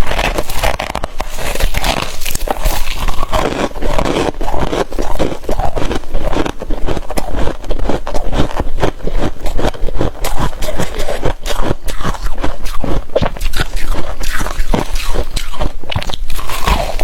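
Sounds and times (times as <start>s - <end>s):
freezer frost being scraped: 0.0s - 17.0s.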